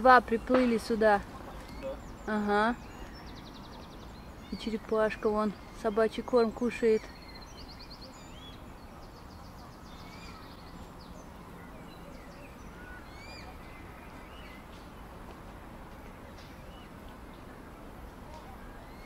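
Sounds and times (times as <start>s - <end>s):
low outdoor background noise: 0.0s - 19.0s
small birds chirping: 0.0s - 19.0s.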